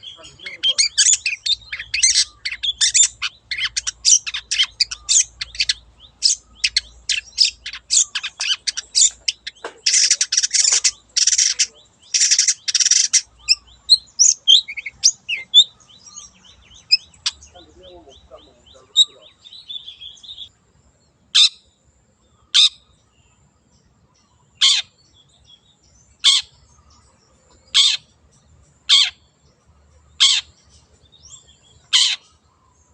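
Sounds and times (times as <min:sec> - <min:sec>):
harsh rasping bird calls: 0:00.0 - 0:20.5, 0:21.3 - 0:21.7, 0:22.4 - 0:23.0, 0:24.3 - 0:25.2, 0:26.2 - 0:32.9
bird chattering song: 0:00.0 - 0:32.9.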